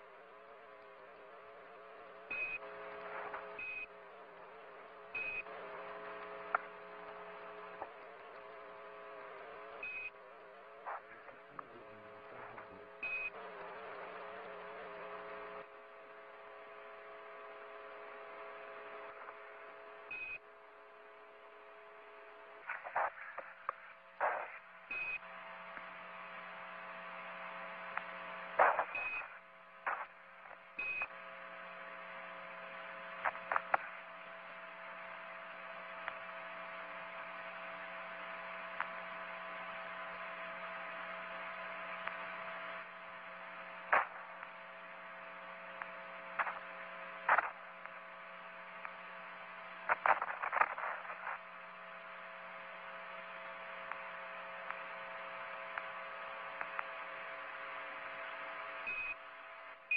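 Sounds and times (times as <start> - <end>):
radio channel hum and hiss: 0.0 - 59.9
radio clicks and crackles: 0.0 - 59.9.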